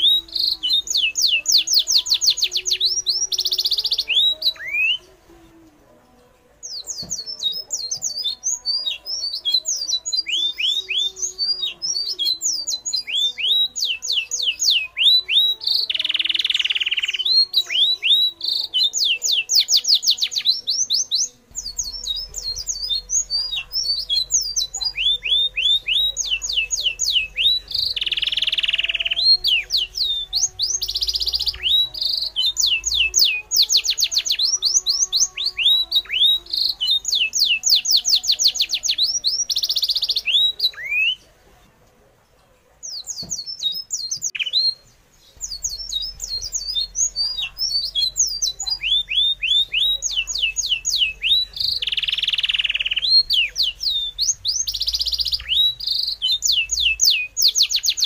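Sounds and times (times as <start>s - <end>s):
forest birds chirping: 0.0s - 41.4s, 42.0s - 58.0s.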